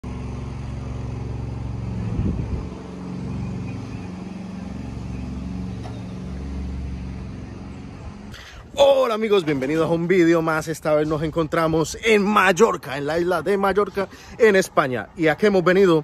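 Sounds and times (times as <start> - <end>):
vehicle engine running: 0.0 - 14.6.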